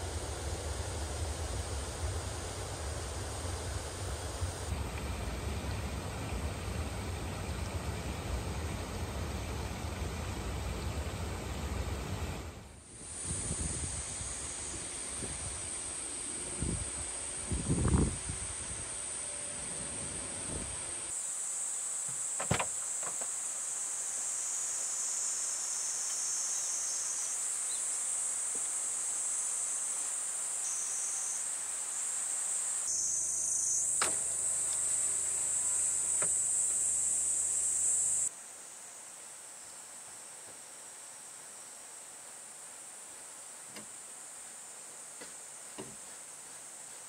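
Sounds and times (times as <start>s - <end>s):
insects chirring: 0.0s - 12.2s, 12.8s - 47.0s.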